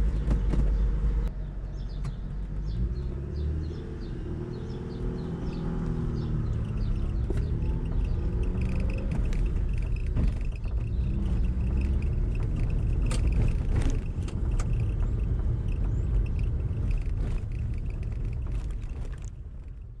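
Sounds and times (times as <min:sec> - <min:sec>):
knocks and rattles in car: 0:00.0 - 0:02.8, 0:04.5 - 0:20.0
car engine and road noise: 0:00.0 - 0:20.0.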